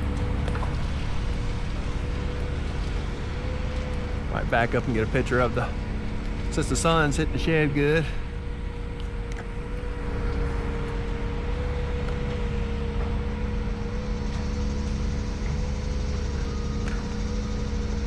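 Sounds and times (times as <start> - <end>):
tractor engines droning: 0.0 - 18.0.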